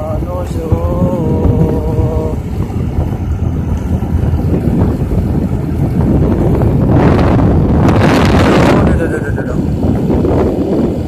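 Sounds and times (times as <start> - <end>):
motorcycle engine and road rumble: 0.0 - 11.0
wind rushing over microphone: 0.0 - 11.0.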